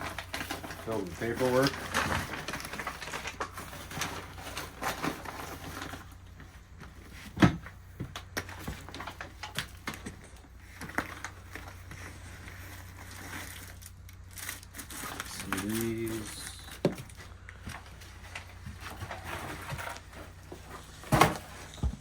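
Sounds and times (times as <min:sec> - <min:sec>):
clicks and knocks of handled objects: 0:00.0 - 0:22.0
rustling of belongings: 0:00.0 - 0:22.0.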